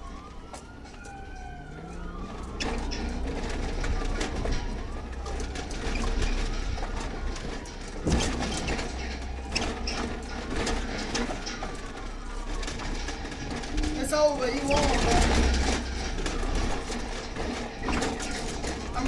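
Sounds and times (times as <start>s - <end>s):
clatter of rattles and knocks: 0.0s - 19.0s
police siren wailing: 0.0s - 19.0s.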